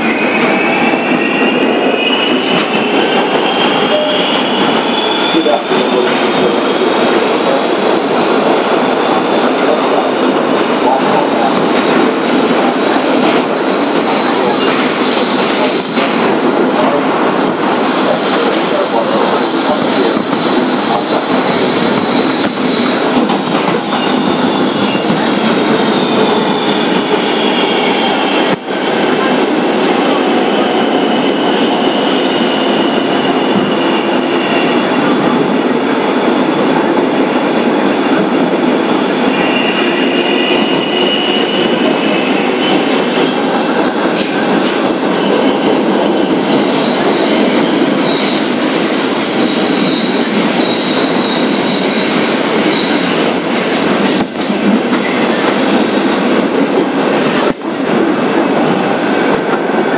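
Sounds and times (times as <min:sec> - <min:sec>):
subway train rumbling on rails: 0:00.0 - 0:59.9.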